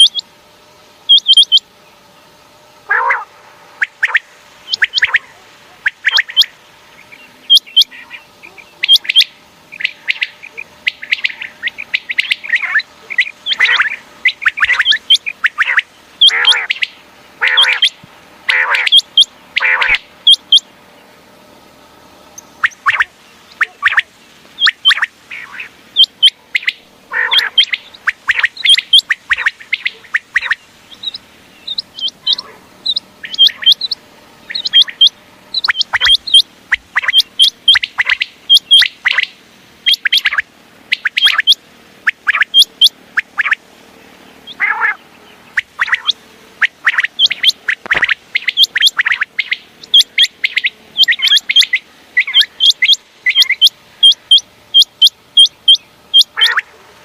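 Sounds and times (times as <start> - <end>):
quail calling: 0.0 - 0.3, 1.1 - 1.7, 2.8 - 20.7, 22.4 - 43.6, 44.4 - 57.0.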